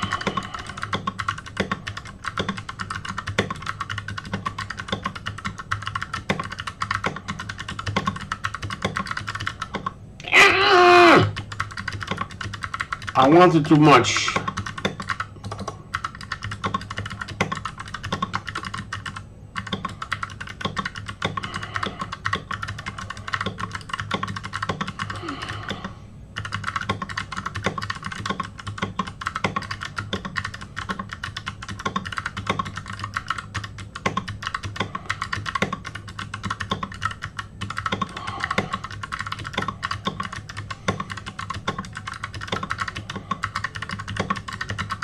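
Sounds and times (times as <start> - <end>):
fast keyboard typing: 0.0 - 45.0.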